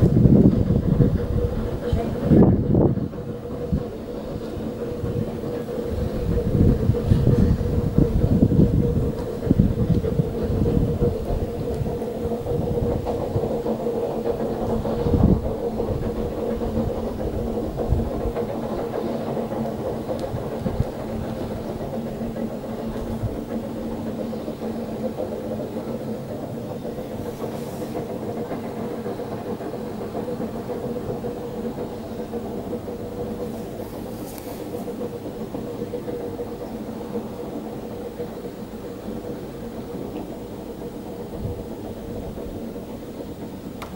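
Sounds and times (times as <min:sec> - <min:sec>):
steam train rumbling: 0:00.0 - 0:43.9.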